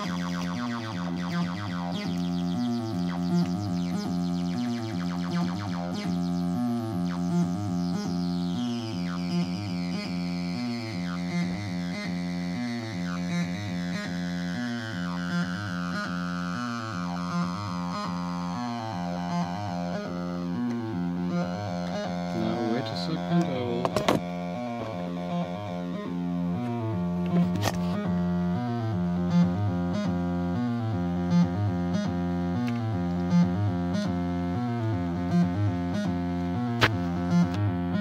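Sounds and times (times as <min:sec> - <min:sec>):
squelchy acid synth bassline: 0:00.0 - 0:38.0.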